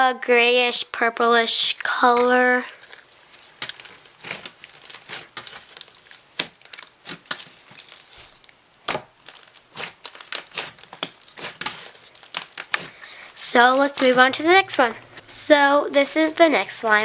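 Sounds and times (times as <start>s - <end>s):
slime crackling and popping: 1.0s - 17.0s.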